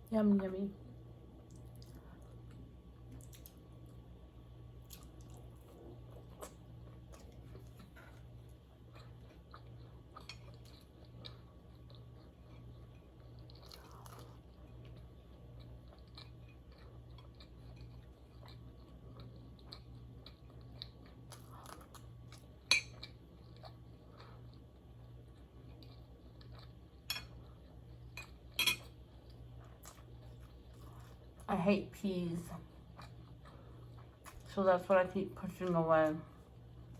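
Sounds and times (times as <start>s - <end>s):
close chewing and crunching: 1.3s - 4.1s, 4.7s - 31.6s, 32.6s - 34.6s.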